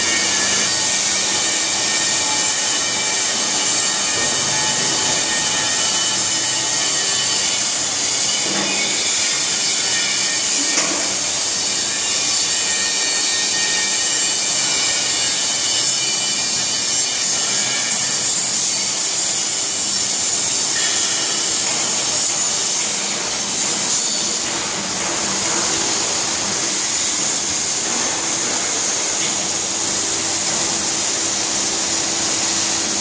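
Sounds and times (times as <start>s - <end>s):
machinery hiss: 0.0s - 33.0s.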